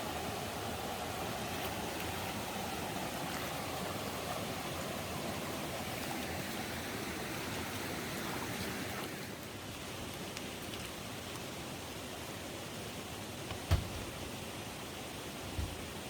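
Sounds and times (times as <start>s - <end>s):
stream running: 0.0s - 16.0s.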